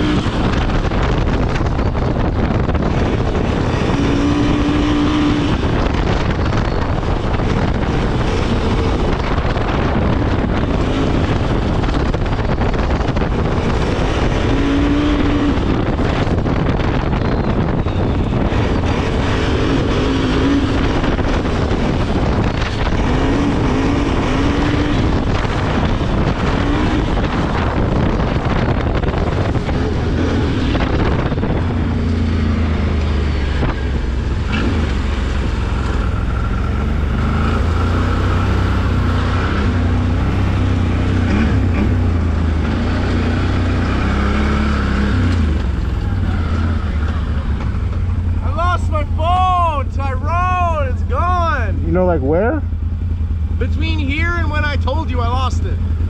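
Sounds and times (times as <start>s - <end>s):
atv engine running: 0.0s - 56.0s
wind noise: 0.0s - 56.0s.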